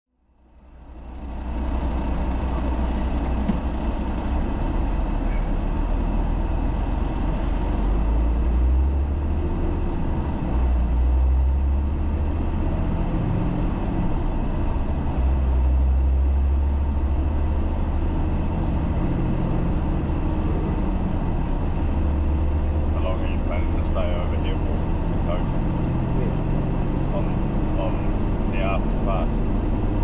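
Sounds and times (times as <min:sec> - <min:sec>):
road noise: 0:00.1 - 0:30.0
truck diesel engine rumbling: 0:00.1 - 0:30.0.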